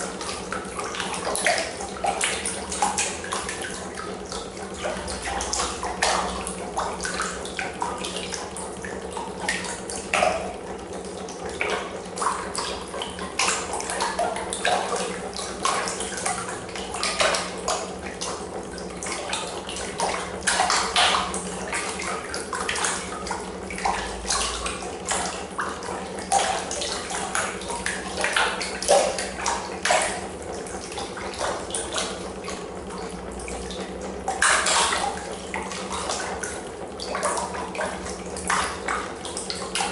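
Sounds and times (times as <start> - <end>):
steady low hum: 0.0 - 39.9
water splashing in a plastic trough: 0.0 - 39.9.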